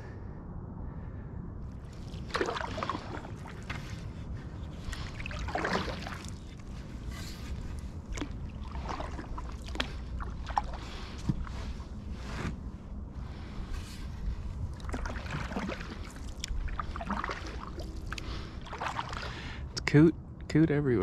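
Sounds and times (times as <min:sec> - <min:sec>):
paddle strokes swishing in water: 0:01.8 - 0:19.6.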